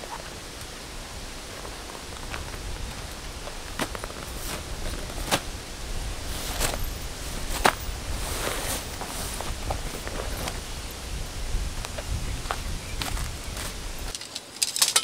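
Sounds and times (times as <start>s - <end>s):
steady low rumble: 0.0s - 14.1s
rustling: 0.0s - 15.0s.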